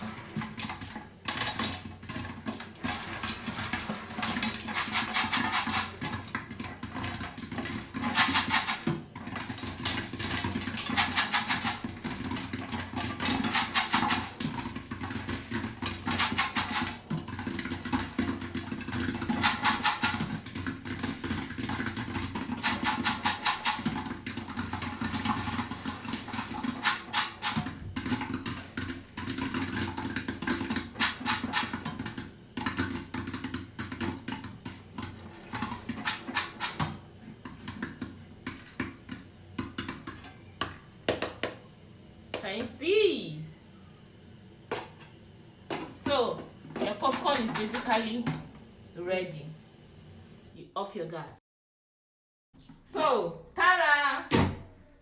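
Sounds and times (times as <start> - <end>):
pot rattling: 0.0 - 41.5, 45.7 - 48.5
popcorn popping in a pot: 0.0 - 50.1.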